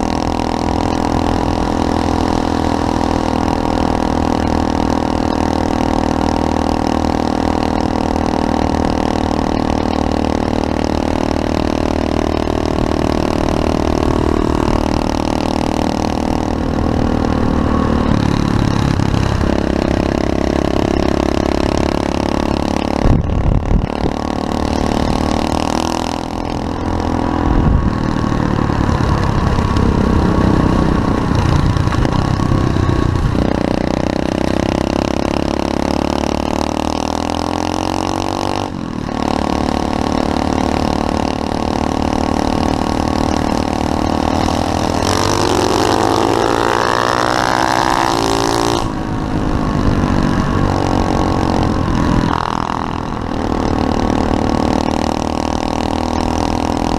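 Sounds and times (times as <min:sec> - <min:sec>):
four-stroke motorbike engine revving: 0:00.0 - 0:56.9.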